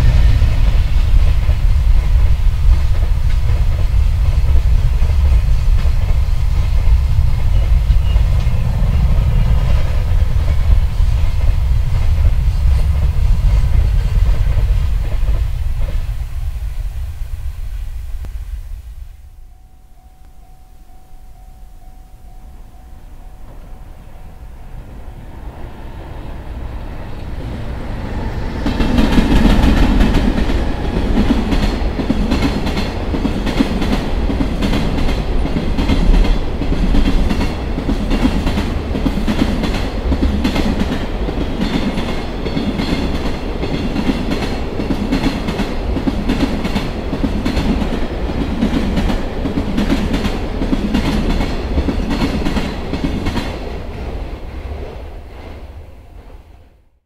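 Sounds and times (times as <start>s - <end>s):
electric locomotive passing: 0.0s - 56.9s.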